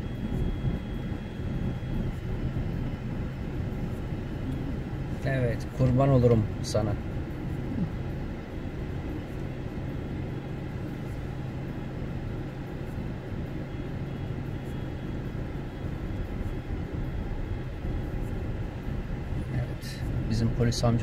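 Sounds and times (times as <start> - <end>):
car engine hum: 0.0 - 21.0
road noise: 0.0 - 21.0.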